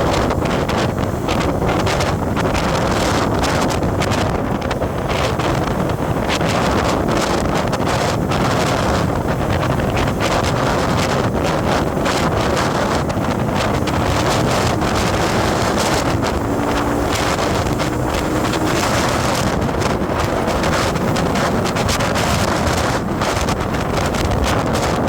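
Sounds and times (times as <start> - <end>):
vehicle road noise: 0.0 - 25.0
wind on microphone: 0.0 - 25.0.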